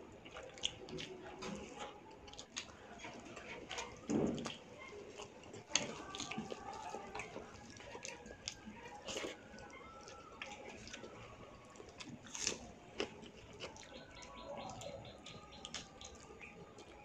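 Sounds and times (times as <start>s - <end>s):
wet chewing: 0.1s - 17.0s.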